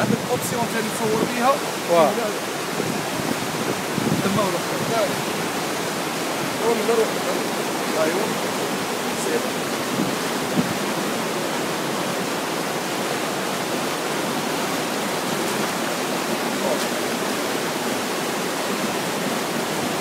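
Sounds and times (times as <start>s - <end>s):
river floodwater rushing: 0.0s - 20.0s.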